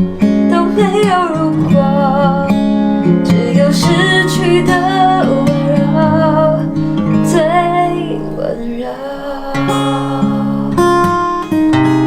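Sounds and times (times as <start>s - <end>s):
person singing long notes: 0.0s - 11.6s
acoustic guitar chords: 0.0s - 12.0s.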